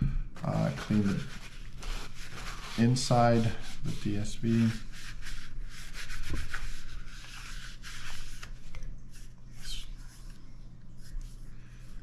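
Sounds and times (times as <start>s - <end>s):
hands rubbing plastic tube: 0.4s - 10.4s.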